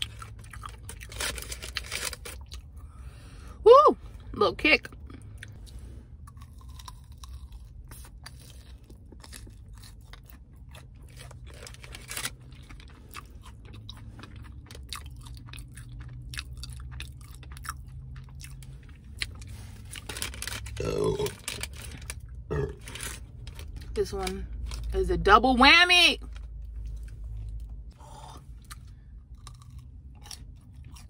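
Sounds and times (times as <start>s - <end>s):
crunchy chewing: 0.0s - 3.0s, 4.9s - 23.9s, 26.3s - 31.0s
low steady hum: 0.0s - 31.0s.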